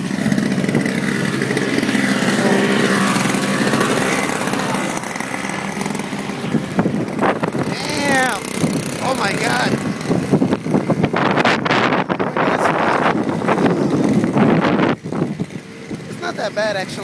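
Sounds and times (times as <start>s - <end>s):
snowblower engine running: 0.0s - 17.0s
wind buffeting microphone: 0.0s - 17.0s.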